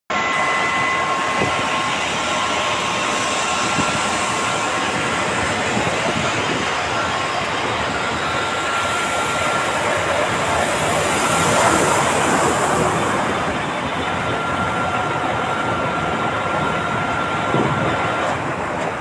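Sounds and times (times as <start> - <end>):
conveyor belt mechanical rumble: 0.1 - 19.0
faint steady whining tones: 0.1 - 19.0.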